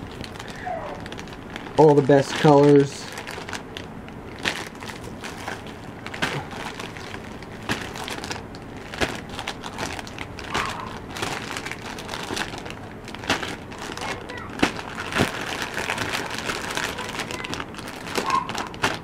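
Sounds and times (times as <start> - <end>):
plastic packets crinkling: 0.0 - 19.0.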